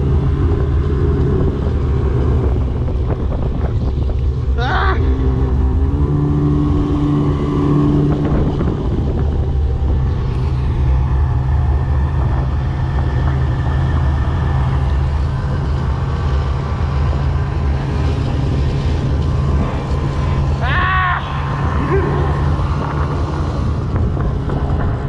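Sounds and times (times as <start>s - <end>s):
snowmobile engine droning: 0.0s - 25.0s.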